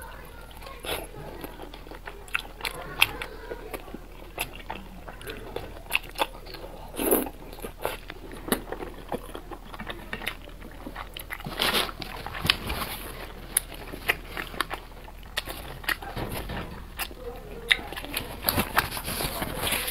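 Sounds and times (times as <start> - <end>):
close chewing: 0.0 - 19.9.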